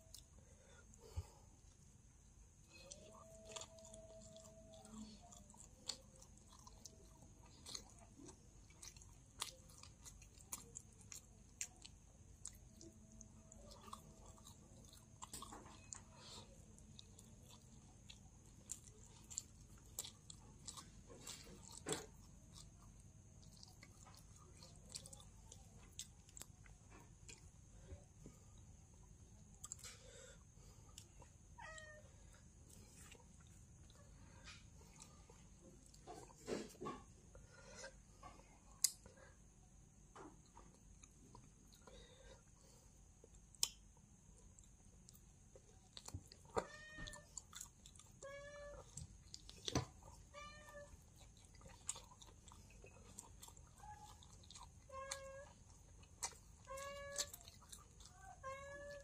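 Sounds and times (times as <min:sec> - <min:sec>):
person chewing food: 0:00.0 - 0:31.6, 0:32.2 - 0:59.0.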